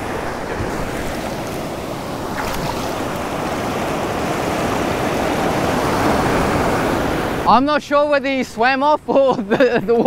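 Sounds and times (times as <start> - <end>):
ocean surf breaking: 0.0 - 9.1.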